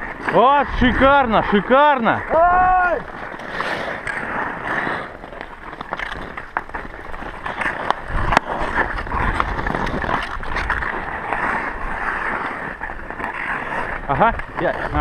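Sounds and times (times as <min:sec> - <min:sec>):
hockey sticks clacking: 0:00.0 - 0:15.0
ice skates scraping on ice: 0:00.0 - 0:15.0.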